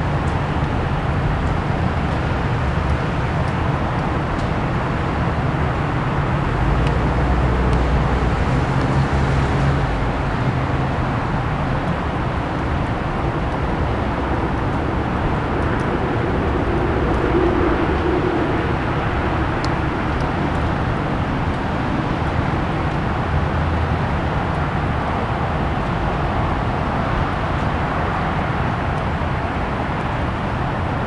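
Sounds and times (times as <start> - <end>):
distant road traffic rumble: 0.0 - 31.0.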